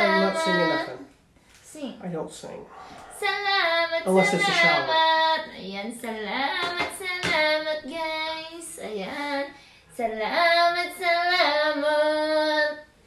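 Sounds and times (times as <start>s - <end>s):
woman singing: 0.0s - 1.1s, 3.1s - 12.9s.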